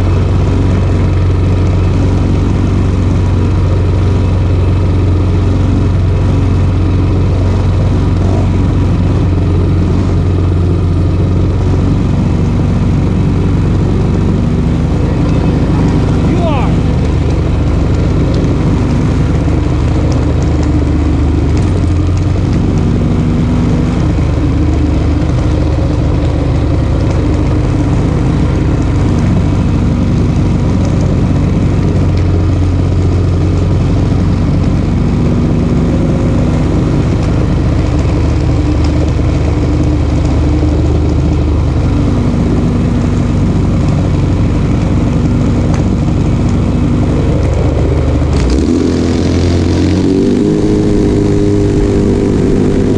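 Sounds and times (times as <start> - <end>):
single-cylinder engine idling: 0.0 - 52.9.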